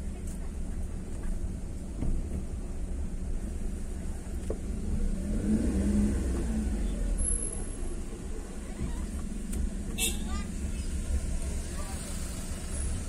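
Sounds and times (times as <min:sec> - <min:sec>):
car engine: 0:00.0 - 0:13.0
low road rumble: 0:00.0 - 0:13.0.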